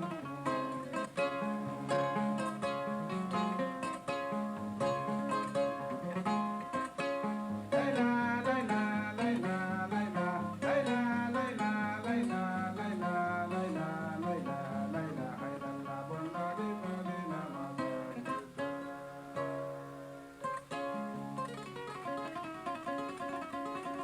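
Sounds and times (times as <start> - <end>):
person singing ornamented lines: 0.0 - 20.2
harp-lute plucked: 0.0 - 24.0.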